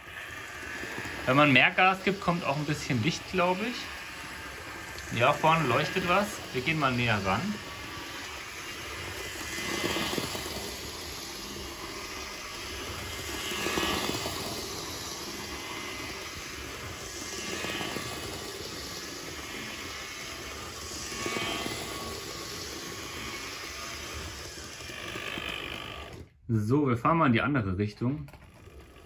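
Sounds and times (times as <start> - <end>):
model train motor whirring: 0.0 - 26.4, 28.2 - 29.0.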